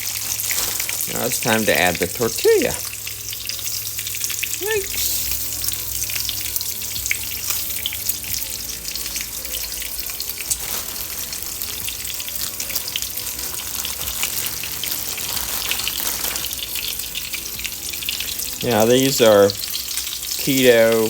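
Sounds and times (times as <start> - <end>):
food sizzling in a frying pan: 0.0 - 21.0.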